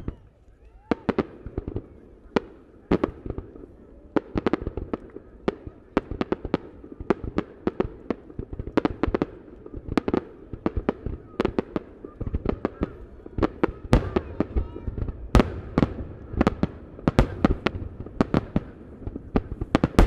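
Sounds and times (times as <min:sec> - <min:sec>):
distant fireworks bangs: 0:00.9 - 0:20.0.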